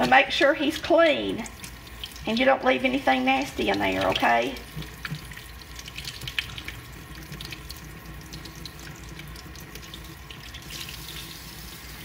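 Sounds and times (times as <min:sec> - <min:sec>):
kitchen faucet running: 0:00.0 - 0:12.0
water splashes and drips: 0:00.0 - 0:12.0.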